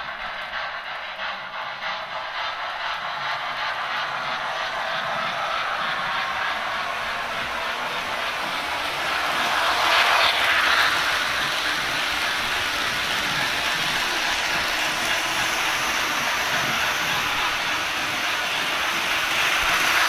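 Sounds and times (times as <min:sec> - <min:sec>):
model train rolling on metal track: 0:00.0 - 0:20.0.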